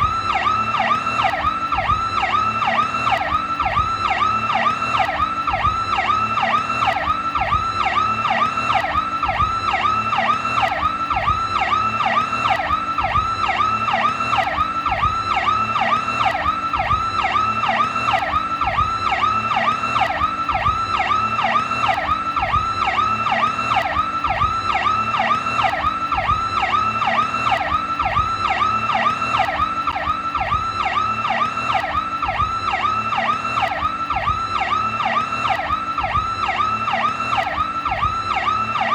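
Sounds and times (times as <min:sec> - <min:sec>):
electronic siren yelping: 0:00.0 - 0:38.9.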